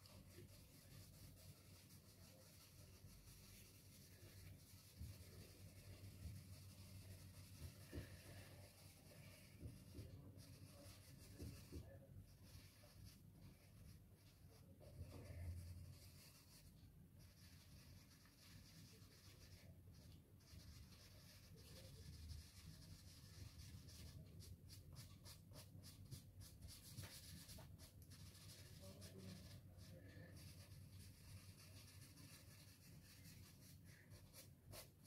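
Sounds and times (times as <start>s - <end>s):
pastel scratching on paper: 0.0s - 35.0s.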